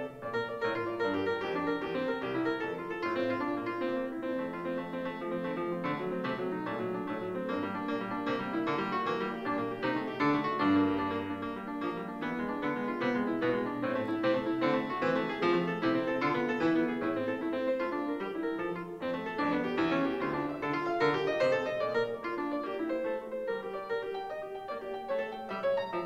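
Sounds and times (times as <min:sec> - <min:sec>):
grand piano played quickly: 0:00.0 - 0:26.0.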